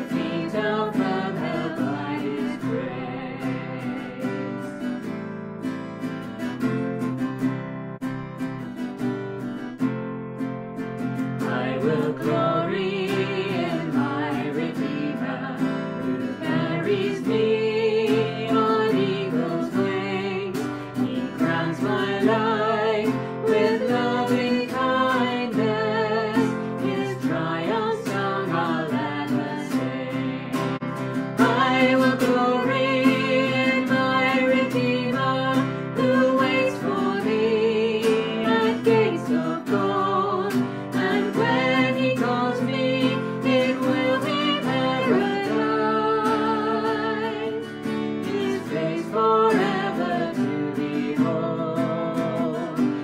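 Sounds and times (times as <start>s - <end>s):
man and woman singing a hymn: 0.0s - 4.9s, 11.4s - 53.0s
strummed guitar: 0.0s - 53.0s.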